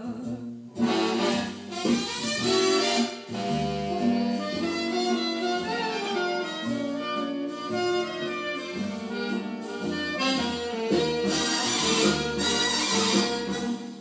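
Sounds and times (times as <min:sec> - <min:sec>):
instrumental jazz with saxophone: 0:00.2 - 0:14.0.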